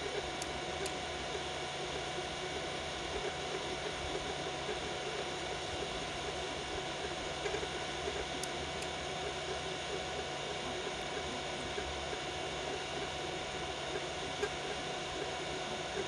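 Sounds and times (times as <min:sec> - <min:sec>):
cooling fans whirring: 0:00.0 - 0:16.0.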